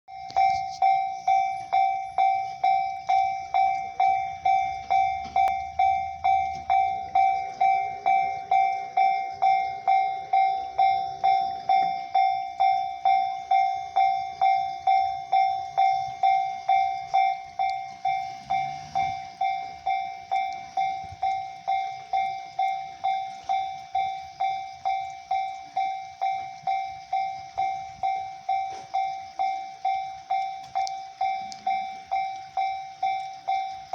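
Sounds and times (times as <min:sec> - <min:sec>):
level crossing warning bell ringing: 0:00.1 - 0:33.9.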